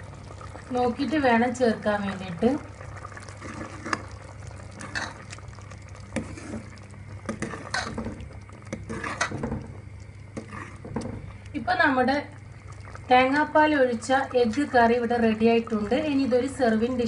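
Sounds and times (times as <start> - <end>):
faint bubbling: 0.0 - 17.0
low steady hum: 0.0 - 17.0.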